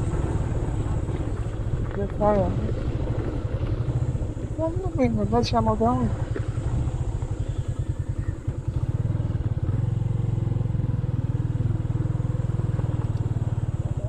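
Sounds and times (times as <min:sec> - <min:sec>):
motorcycle engine puttering: 0:00.0 - 0:14.0.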